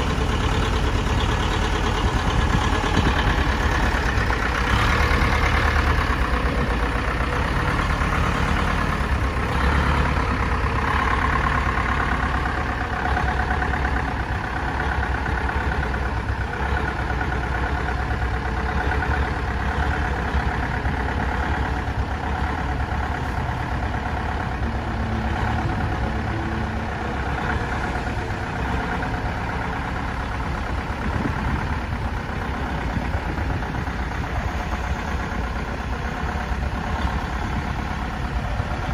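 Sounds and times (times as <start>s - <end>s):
lorry engine running at low revs: 0.0s - 38.9s.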